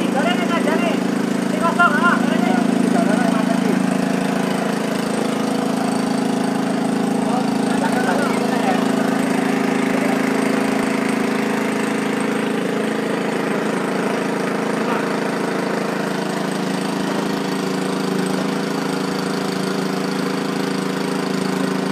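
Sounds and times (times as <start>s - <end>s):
small engine idling: 0.0s - 21.9s.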